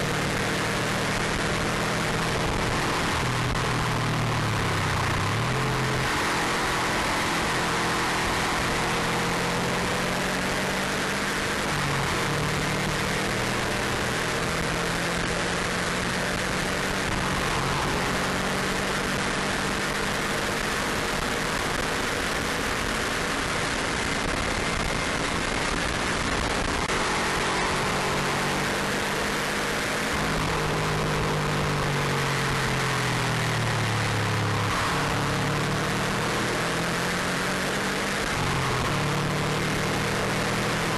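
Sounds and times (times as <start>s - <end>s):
car engine running hard: 0.0s - 40.9s.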